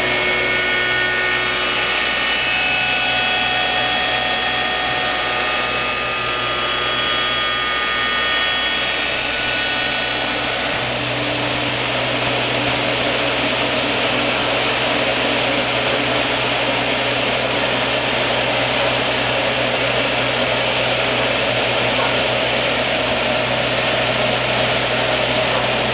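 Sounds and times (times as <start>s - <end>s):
high whine of steady tones: 0.0s - 25.9s
machine low hum: 0.0s - 25.9s
rough wood cutting noise: 0.0s - 25.9s.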